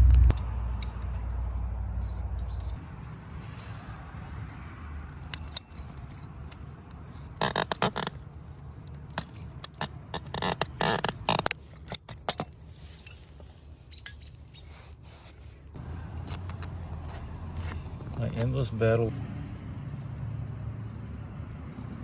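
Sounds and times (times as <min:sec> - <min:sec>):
sharp scrapes and clicks: 0:00.0 - 0:19.0.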